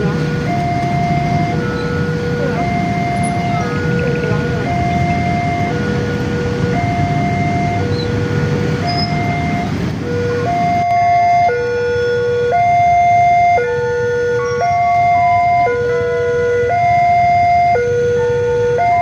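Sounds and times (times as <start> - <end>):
level crossing two-tone alarm: 0.0 - 19.0
motorcycle traffic rumble: 0.0 - 19.0.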